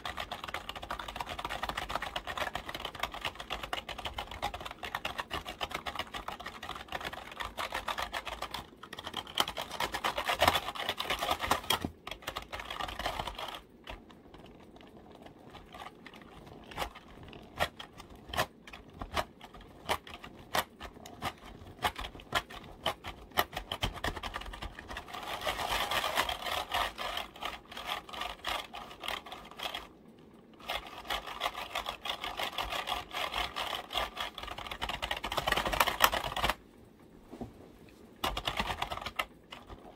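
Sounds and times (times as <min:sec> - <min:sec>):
computer keyboard typing: 0:00.0 - 0:29.9, 0:30.6 - 0:36.6, 0:38.2 - 0:39.9.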